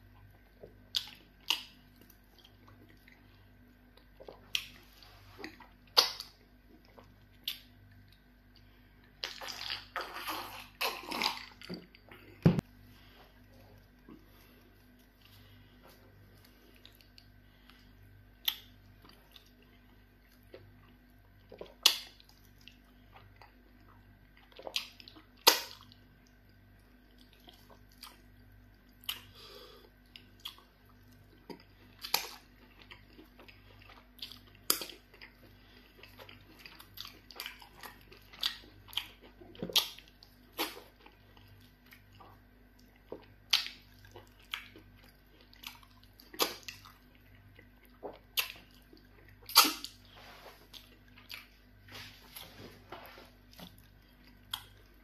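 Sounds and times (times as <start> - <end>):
faint steady hum: 0.0 - 55.0
chewing and wet mouth smacks: 0.2 - 12.1, 16.4 - 29.4, 30.0 - 50.1, 50.7 - 51.7, 53.4 - 55.0.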